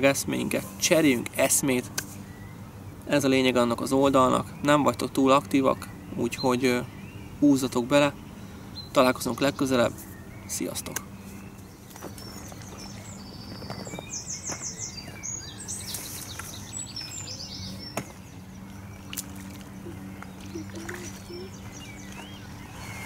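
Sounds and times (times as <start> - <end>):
songbirds singing and chirping: 0.0 - 23.0
steady low hum: 0.0 - 23.0.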